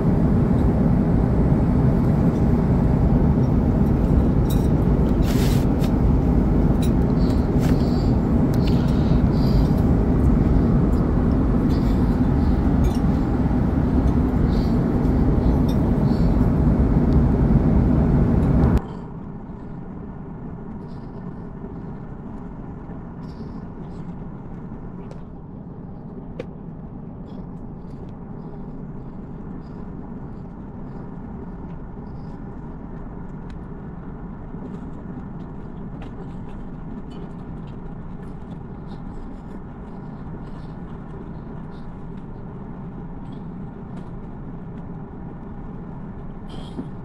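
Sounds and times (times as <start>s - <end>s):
aircraft cabin roar: 0.0s - 47.0s.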